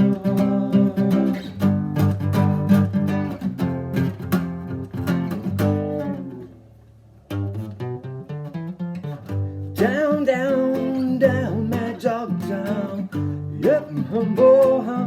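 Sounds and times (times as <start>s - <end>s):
guitars picking and strumming: 0.0s - 15.0s.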